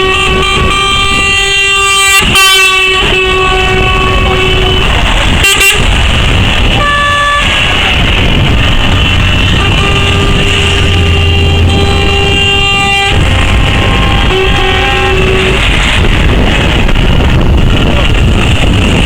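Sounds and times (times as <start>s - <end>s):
lorry horn blast: 0.0s - 6.0s, 6.7s - 16.7s
truck engines rumbling: 0.0s - 19.0s.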